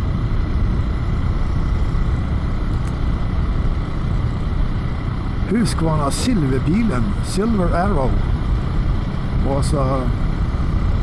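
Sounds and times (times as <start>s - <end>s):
vehicle running low rumble: 0.0s - 11.0s.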